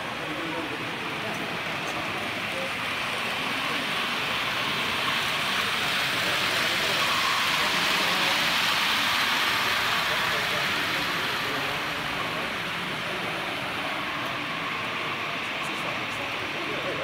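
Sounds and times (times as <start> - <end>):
model train wheels whirring: 0.0 - 17.0.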